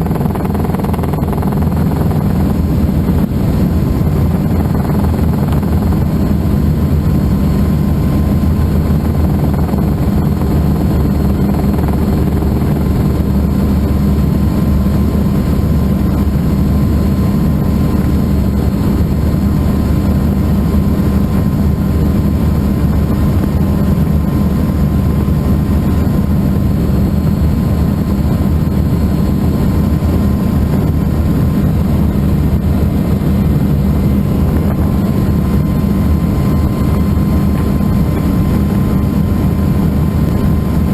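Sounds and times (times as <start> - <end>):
helicopter turbine and rotor drone: 0.0 - 40.9.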